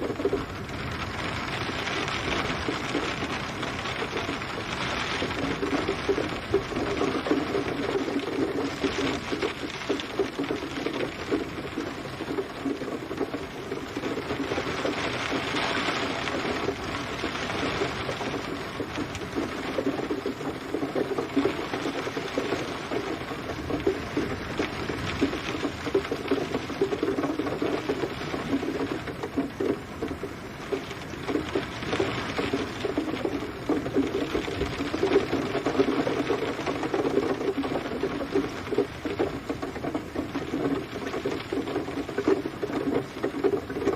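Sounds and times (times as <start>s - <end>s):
rain pattering on hard surface: 0.0s - 43.9s.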